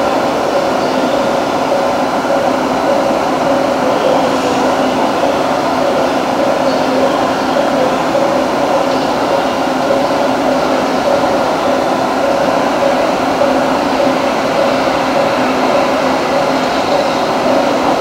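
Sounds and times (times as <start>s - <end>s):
electric trains humming: 0.0s - 18.0s.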